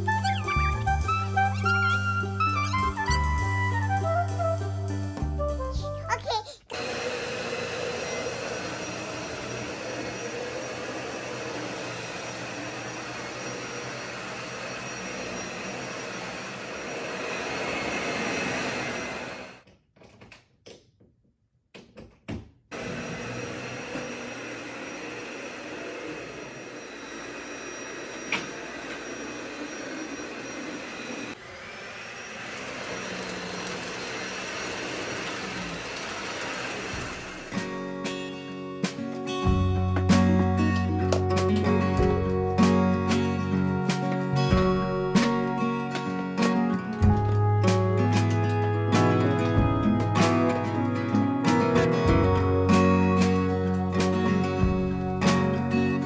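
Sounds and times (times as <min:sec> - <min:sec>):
vacuum cleaner running: 0:06.7 - 0:19.6, 0:22.7 - 0:56.0.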